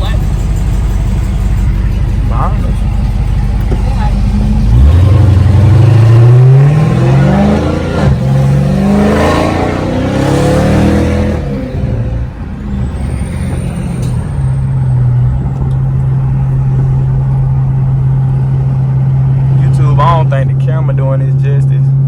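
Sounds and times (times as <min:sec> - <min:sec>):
car engine accelerating through gears: 0:00.0 - 0:22.0.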